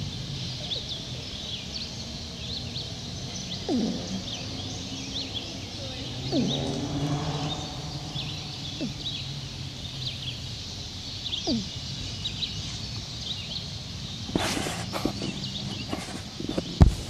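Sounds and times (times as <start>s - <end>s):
outdoor background hum: 0.0s - 17.0s
small birds chirping: 0.0s - 17.0s.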